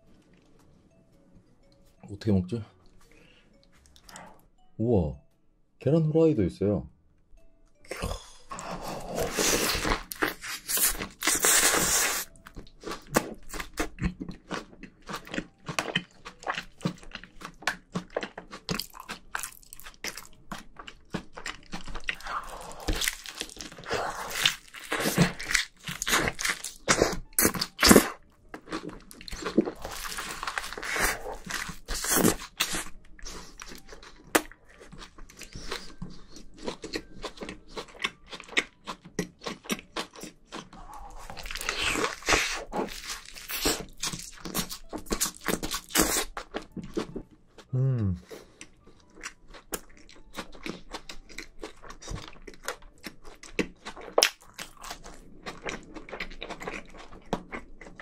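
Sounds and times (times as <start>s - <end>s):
chewing with wet crunching: 7.9s - 58.0s.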